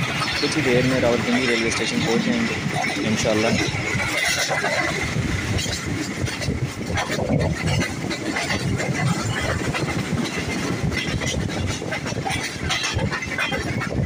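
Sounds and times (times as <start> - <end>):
train rumbling: 0.0 - 14.0
train wheels clattering on track: 0.0 - 14.0.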